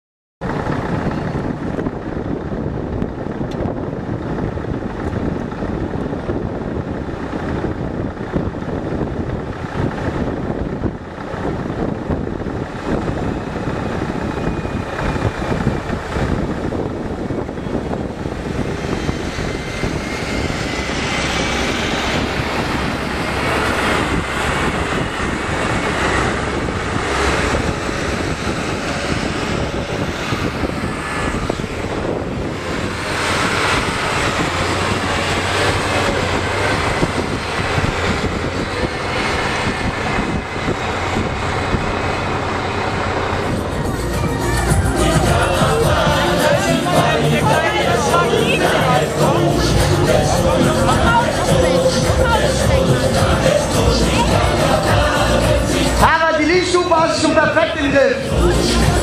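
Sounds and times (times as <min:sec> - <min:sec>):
diesel tractor passing by: 0:00.4 - 0:59.0.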